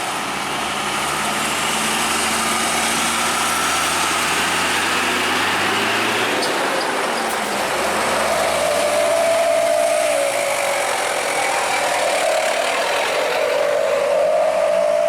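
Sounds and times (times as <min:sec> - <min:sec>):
heavy truck engine whine: 0:00.0 - 0:15.0.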